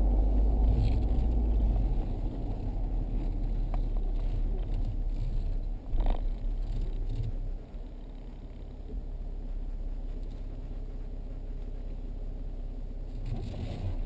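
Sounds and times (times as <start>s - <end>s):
tyres on road: 0.0s - 14.0s
vehicle engine rumble: 0.0s - 14.0s.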